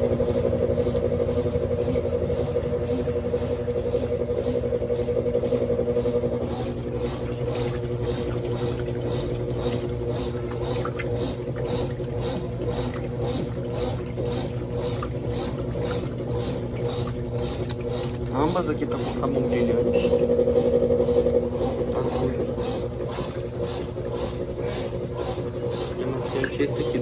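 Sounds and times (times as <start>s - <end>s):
washing machine motor hum: 0.0s - 27.0s
water sloshing: 0.0s - 27.0s.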